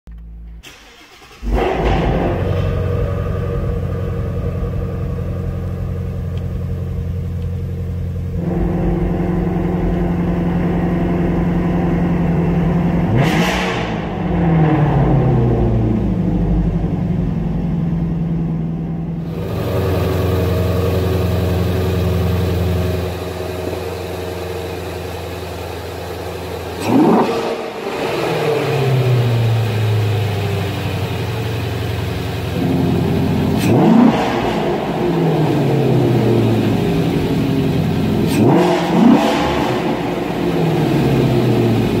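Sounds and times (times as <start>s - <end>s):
car engine idling and revving: 0.1s - 42.0s.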